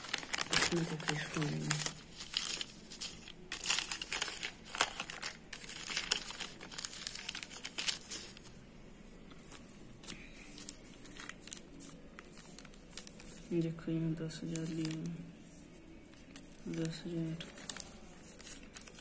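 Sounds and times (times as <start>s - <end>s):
paper crinkling and rustling: 0.0s - 8.6s, 9.3s - 19.0s.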